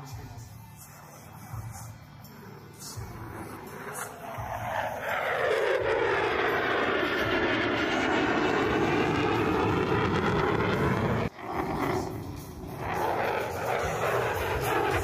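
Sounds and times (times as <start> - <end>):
fighter jet flying past: 0.8 - 15.0.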